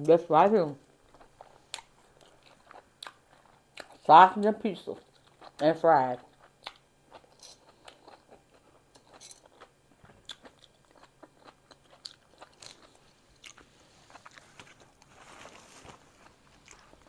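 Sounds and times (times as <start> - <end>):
chewing: 1.0 - 4.1, 4.9 - 5.6, 6.2 - 17.0.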